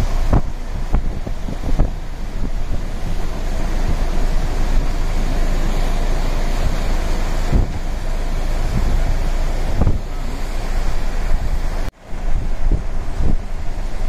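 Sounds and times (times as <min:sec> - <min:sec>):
waves breaking against a pier: 0:00.0 - 0:14.0
wind buffeting microphone: 0:00.0 - 0:14.0.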